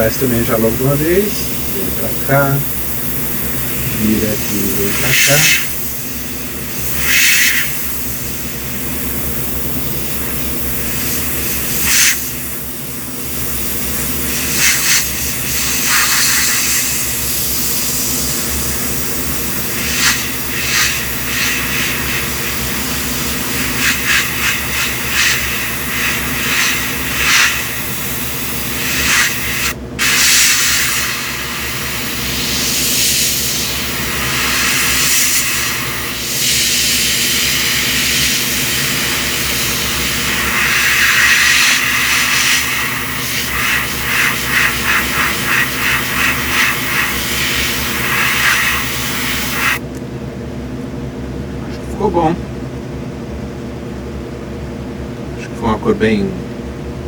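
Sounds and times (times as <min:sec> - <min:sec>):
airbrush spraying hiss: 0:00.0 - 0:49.8
low mechanical hum: 0:00.0 - 0:57.0.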